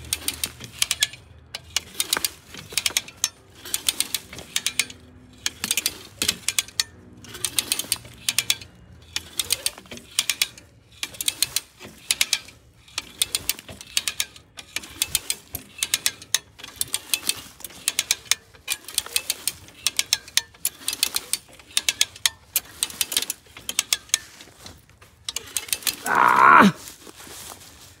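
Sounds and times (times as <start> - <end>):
winch ratchet clicking: 0.0 - 26.4.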